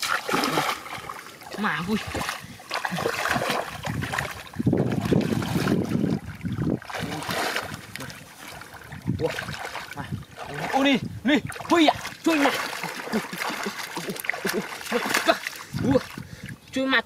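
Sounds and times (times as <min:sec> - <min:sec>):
muddy water splashing: 0:00.0 - 0:17.0.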